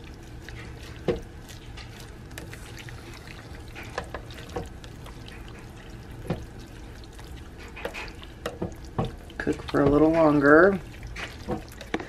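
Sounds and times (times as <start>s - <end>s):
wet sloshing of stirred food: 0.0s - 12.0s.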